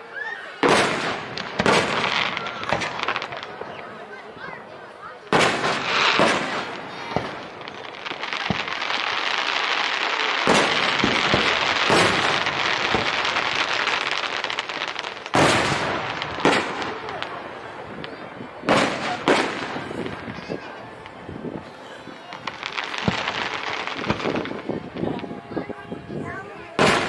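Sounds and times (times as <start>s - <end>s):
fireworks crackling: 0.0s - 27.0s
fireworks booming: 0.6s - 27.0s.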